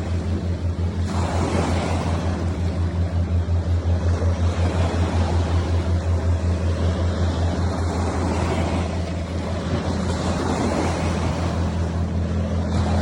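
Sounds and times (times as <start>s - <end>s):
motor droning: 0.0s - 13.0s
wind or water noise: 0.0s - 13.0s.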